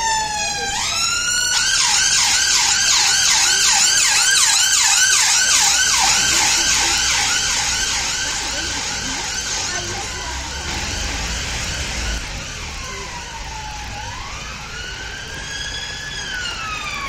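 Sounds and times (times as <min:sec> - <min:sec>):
ambulance siren wailing and yelping: 0:00.0 - 0:17.0.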